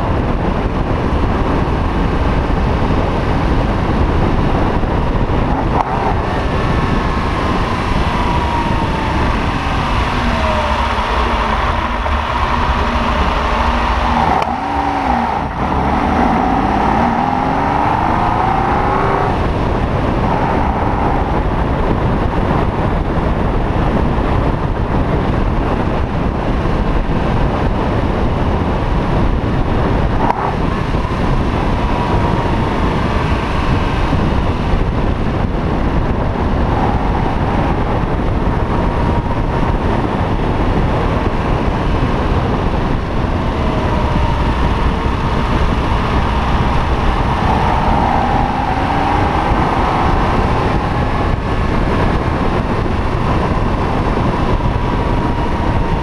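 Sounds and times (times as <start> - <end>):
car engine running: 0.0 - 56.0
wind noise: 0.0 - 56.0.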